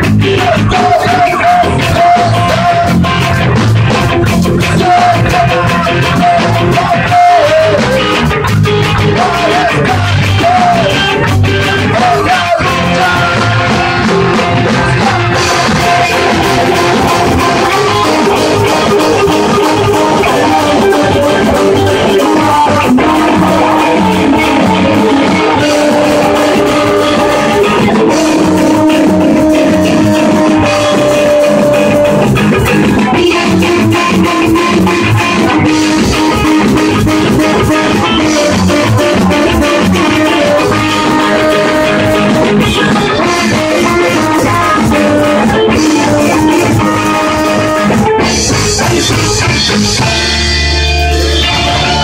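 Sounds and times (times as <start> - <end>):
ska band playing live: 0.0 - 52.0.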